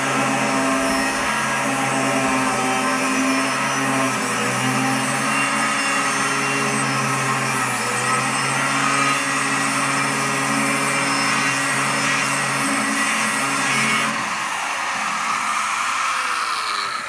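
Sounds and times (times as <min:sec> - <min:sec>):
angle grinder motor hum: 0:00.0 - 0:17.0.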